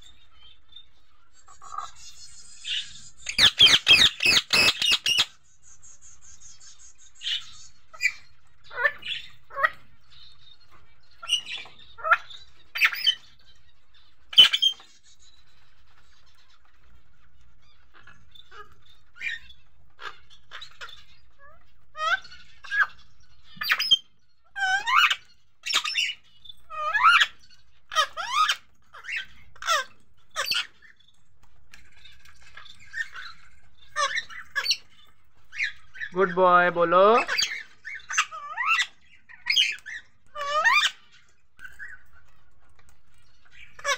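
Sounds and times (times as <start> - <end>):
parakeets chirping and squawking: 0.0 - 43.9.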